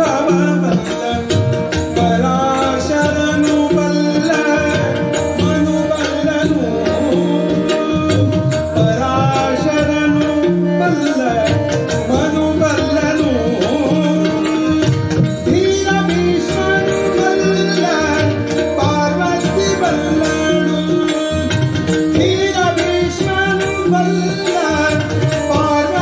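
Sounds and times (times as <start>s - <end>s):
harmonium notes: 0.0s - 26.0s
man singing ornamented melody: 0.0s - 26.0s
tabla strokes: 0.0s - 26.0s.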